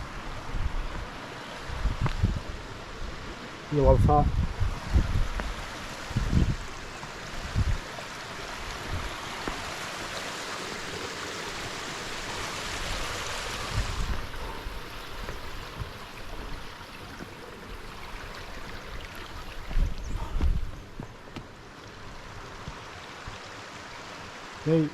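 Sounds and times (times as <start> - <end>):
water flowing over rocks: 0.0 - 24.9.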